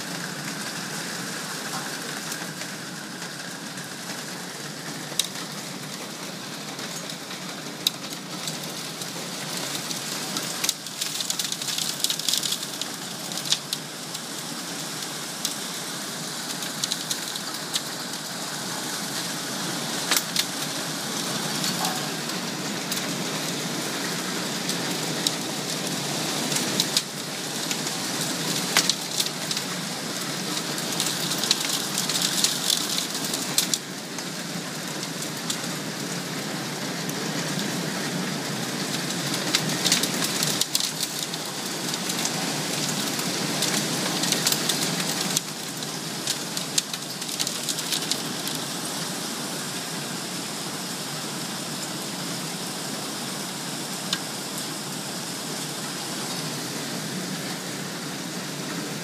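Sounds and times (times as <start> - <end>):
hiss of hail and rain: 0.0 - 59.0
hailstones clicking on hard surfaces: 0.1 - 49.2, 53.6 - 55.7.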